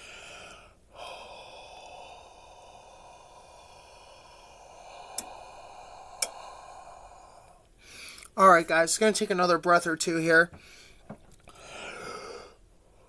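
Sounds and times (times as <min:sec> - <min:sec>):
person breathing close to microphone: 0:00.0 - 0:08.4, 0:10.5 - 0:13.0.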